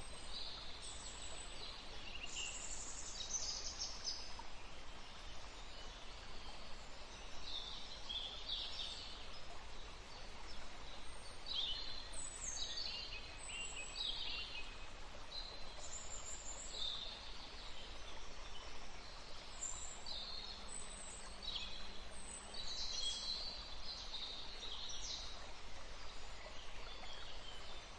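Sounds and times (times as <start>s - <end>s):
steady background hiss: 0.0s - 27.9s.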